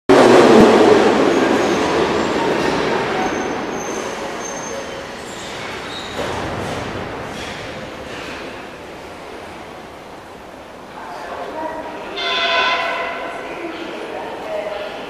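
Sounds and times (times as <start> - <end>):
metro train rumble: 0.1 - 15.0.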